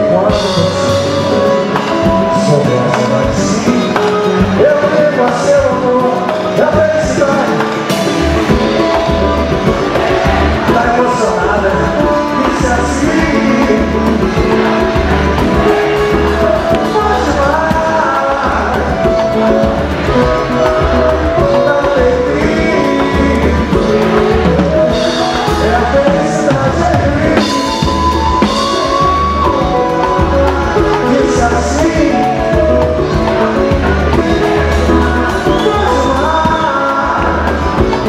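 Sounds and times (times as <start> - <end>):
low drum beat: 0.0 - 38.0
person singing: 0.0 - 38.0
samba band playing: 0.0 - 38.0.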